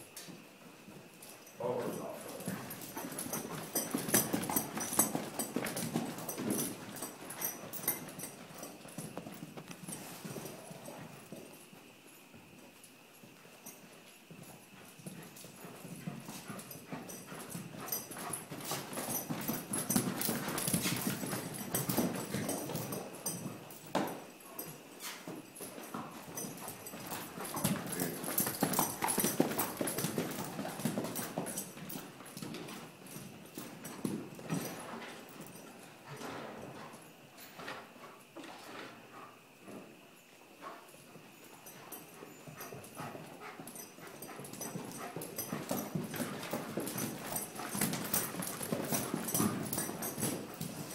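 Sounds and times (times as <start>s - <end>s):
horse hoofbeats: 0.0s - 50.9s.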